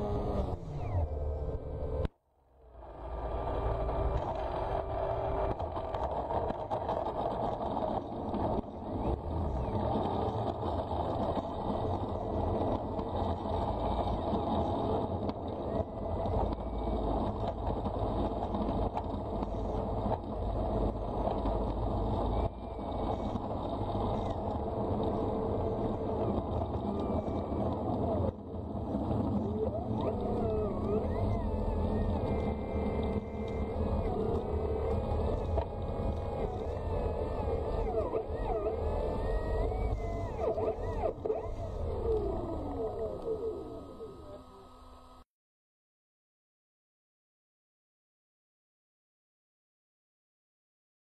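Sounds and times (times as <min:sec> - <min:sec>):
wheels rumbling and rattling: 0:00.0 - 0:45.2
electric motor and propeller whirring: 0:00.0 - 0:45.3
faint motor whine: 0:00.0 - 0:45.3.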